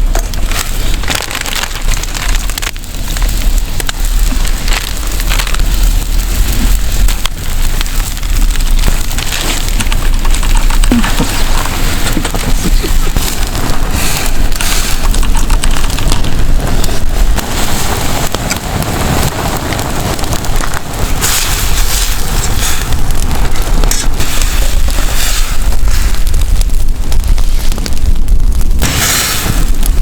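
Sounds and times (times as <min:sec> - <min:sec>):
steady hiss of fire: 0:00.0 - 0:30.0
wood fire crackling and popping: 0:00.0 - 0:30.0.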